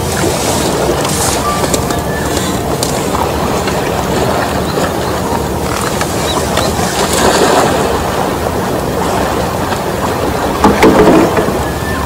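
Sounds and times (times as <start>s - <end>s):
small waves washing against rocks: 0.0s - 11.6s.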